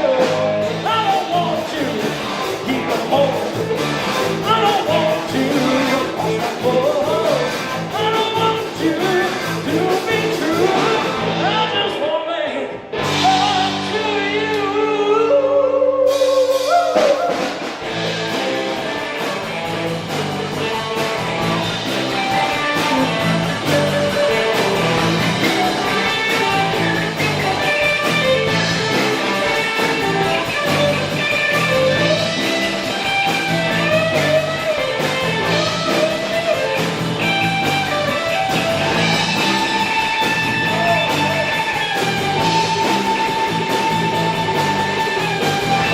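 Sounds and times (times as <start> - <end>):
drums and bass beat: 0.0 - 15.2, 16.1 - 45.9
live rock band: 0.0 - 45.9.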